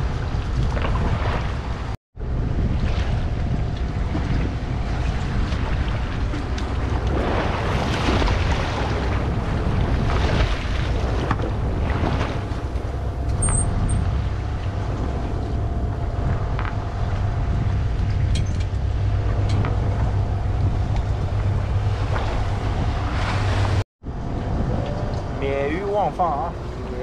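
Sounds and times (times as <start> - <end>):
water rushing along hull: 0.0 - 27.0
wind buffeting microphone: 0.0 - 27.0
boat engine humming: 1.6 - 27.0.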